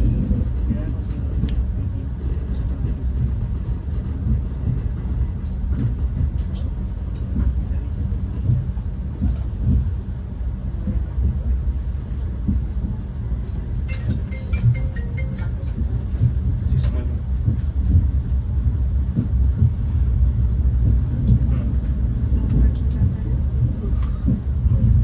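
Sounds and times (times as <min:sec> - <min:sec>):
train rumble inside carriage: 0:00.0 - 0:25.0.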